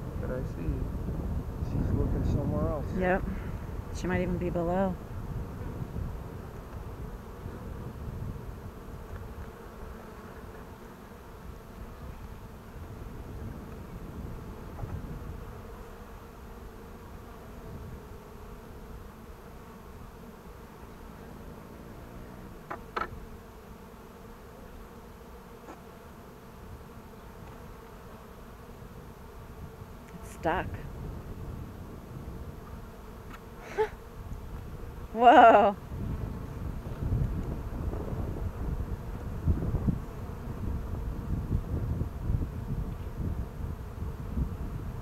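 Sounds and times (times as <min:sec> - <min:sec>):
honey bees buzzing: 0:00.0 - 0:45.0.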